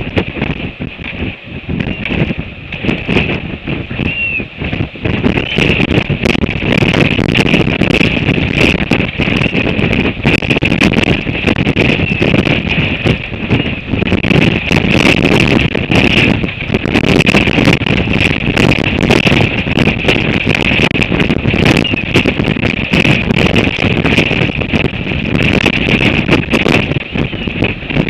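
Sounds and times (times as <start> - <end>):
gale wind buffeting microphone: 0.0 - 28.0
high wind whistle: 0.0 - 28.0.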